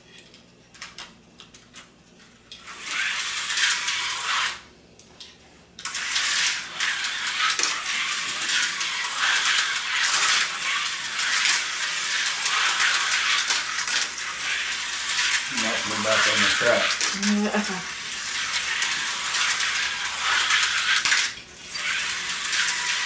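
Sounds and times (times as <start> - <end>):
slot cars whirring on plastic track: 2.5 - 4.6, 5.8 - 23.0.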